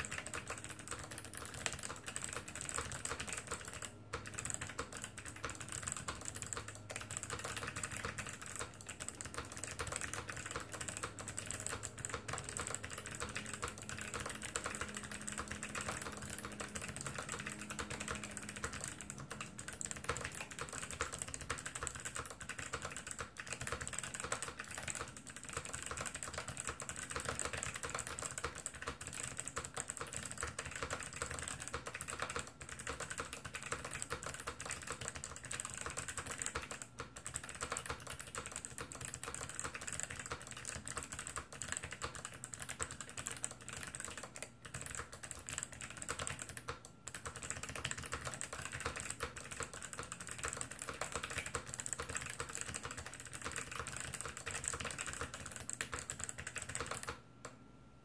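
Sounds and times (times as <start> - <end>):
typing on mechanical keyboard: 0.0 - 57.6.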